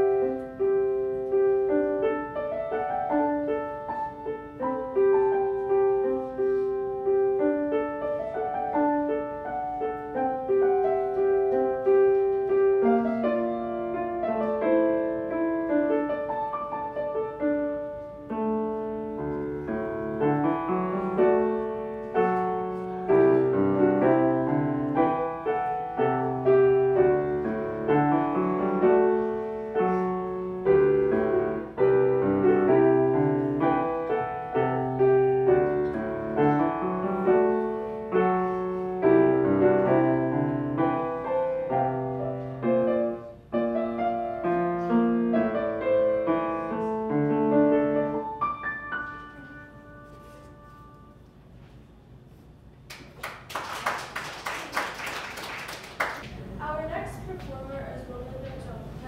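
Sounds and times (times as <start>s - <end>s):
solo piano melody: 0.0s - 51.6s.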